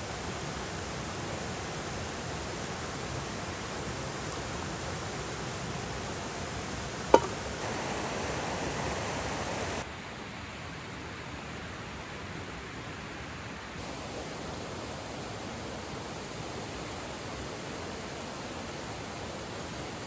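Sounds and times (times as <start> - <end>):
mountain stream rushing: 0.0 - 9.9, 13.8 - 20.0.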